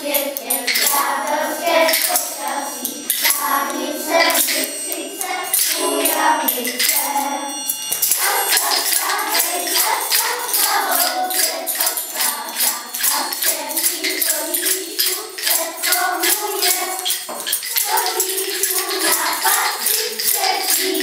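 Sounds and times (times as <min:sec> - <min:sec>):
group of voices singing: 0:00.0 - 0:21.0
tambourine shaken rhythmically: 0:00.0 - 0:21.0.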